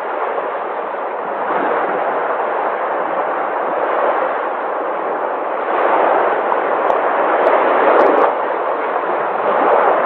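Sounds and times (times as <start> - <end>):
sea waves washing on shore: 0.0 - 10.0.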